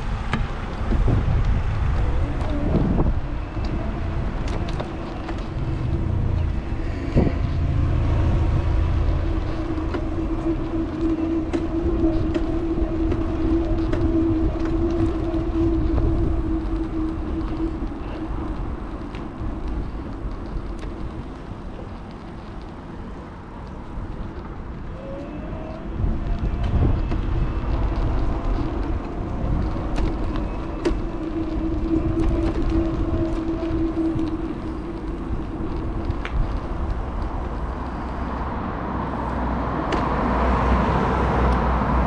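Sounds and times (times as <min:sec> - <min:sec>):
road noise: 0:00.0 - 0:42.0
wind rumble on microphone: 0:00.0 - 0:42.0.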